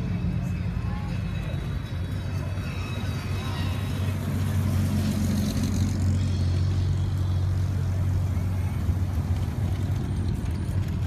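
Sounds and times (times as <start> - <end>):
car engine exhaust rumble: 0.0 - 11.0.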